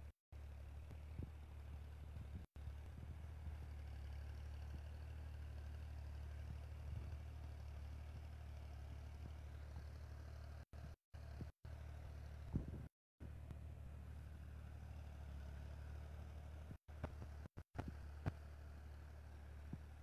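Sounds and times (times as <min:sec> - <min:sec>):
tractor diesel engine running: 0:00.4 - 0:20.0.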